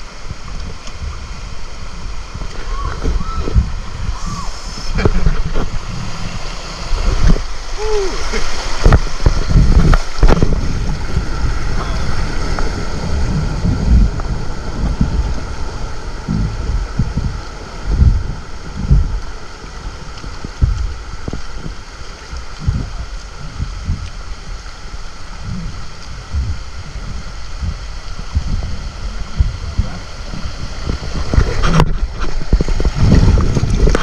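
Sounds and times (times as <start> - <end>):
flowing water: 0.0 - 34.0
wind buffeting microphone: 0.0 - 34.0.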